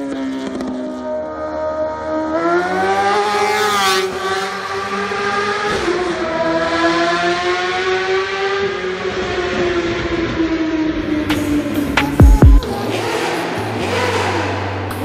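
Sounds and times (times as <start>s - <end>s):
motorbike engine accelerating hard: 0.0s - 15.0s.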